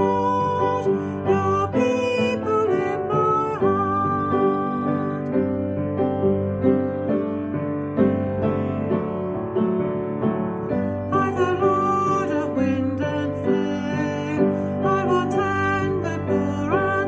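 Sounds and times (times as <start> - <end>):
slow gentle piano chords: 0.0 - 17.0.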